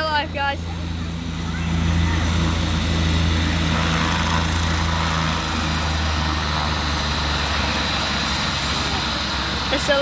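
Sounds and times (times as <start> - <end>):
helicopter rotor and engine: 0.0 - 10.0.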